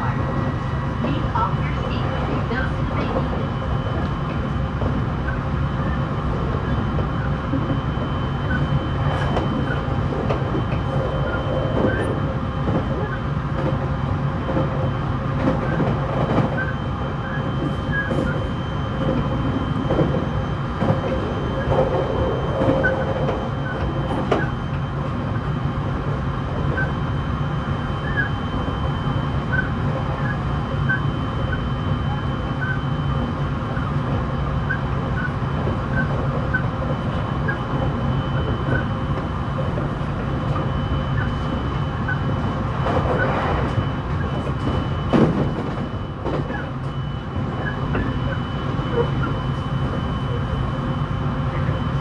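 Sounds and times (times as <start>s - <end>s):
train running rumble: 0.0s - 52.0s.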